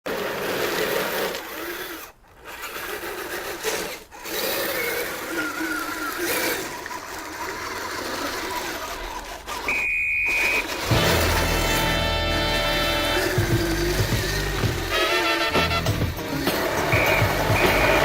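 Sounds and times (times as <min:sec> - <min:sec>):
electric motor and gearbox whining: 0:00.0 - 0:18.0.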